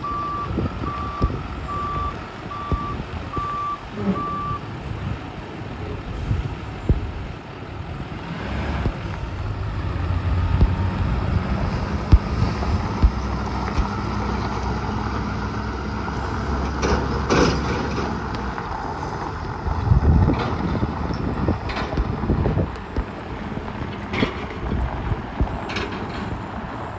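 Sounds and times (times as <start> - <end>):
truck engine driving off: 0.0 - 26.9.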